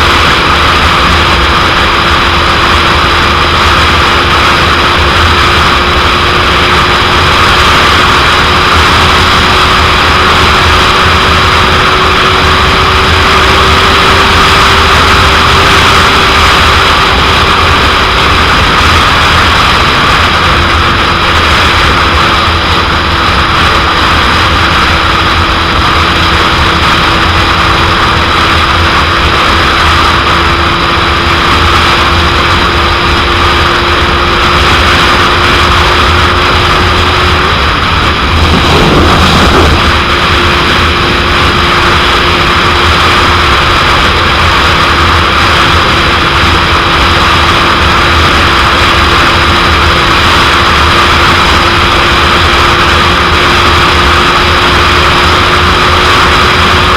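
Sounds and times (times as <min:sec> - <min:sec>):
motorcycle engine steady note: 0:00.0 - 0:56.9
wind rushing over microphone: 0:00.0 - 0:56.9.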